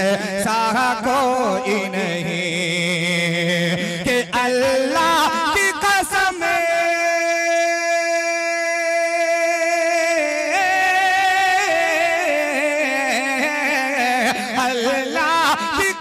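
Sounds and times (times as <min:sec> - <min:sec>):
man singing solo: 0:00.0 - 0:16.0.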